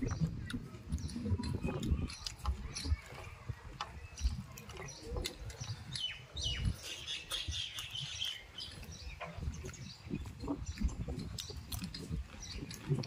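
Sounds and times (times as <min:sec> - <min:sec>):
high bird chirps: 0:00.0 - 0:11.7
wet chewing and lip smacking: 0:00.0 - 0:13.0.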